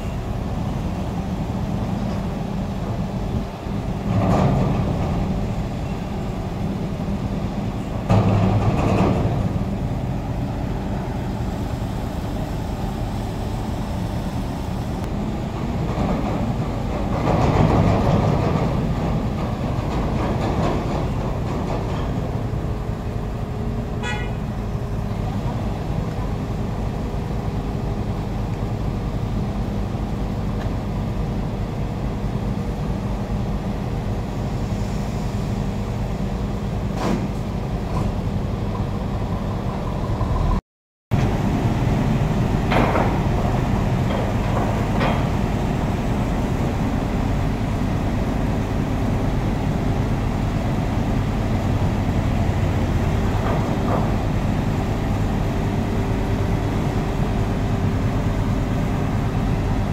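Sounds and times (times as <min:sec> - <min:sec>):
diesel engines idling: 0:00.0 - 0:59.9.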